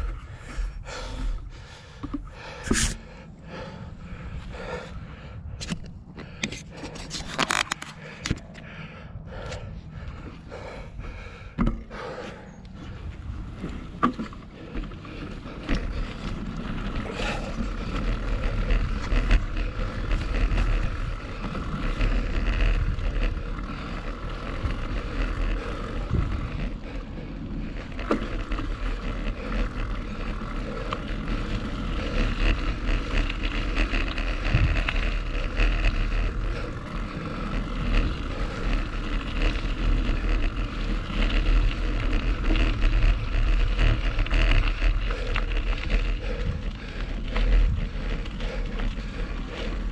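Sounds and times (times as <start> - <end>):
mountain bike rumble and rattle: 0.0 - 49.9
wind buffeting microphone: 0.0 - 49.9.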